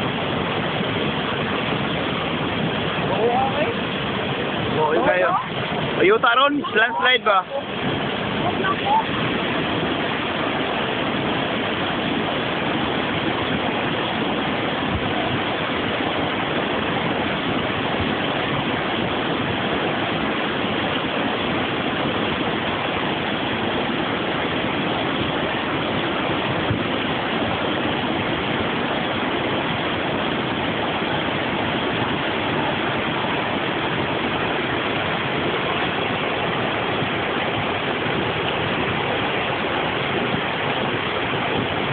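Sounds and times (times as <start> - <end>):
rushing floodwater: 0.0 - 41.9.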